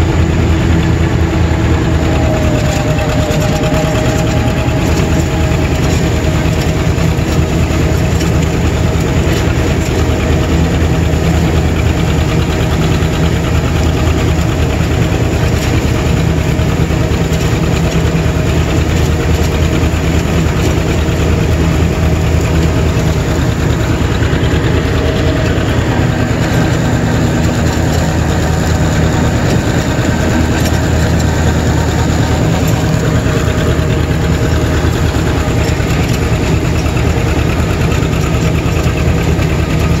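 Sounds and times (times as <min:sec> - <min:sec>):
tractor engine running under load: 0:00.0 - 0:40.0.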